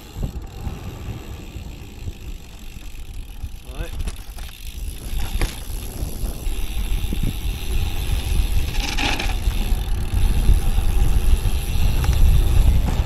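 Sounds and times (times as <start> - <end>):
bike tyre rumble: 0.0 - 13.0
wind rushing over microphone: 0.0 - 13.0.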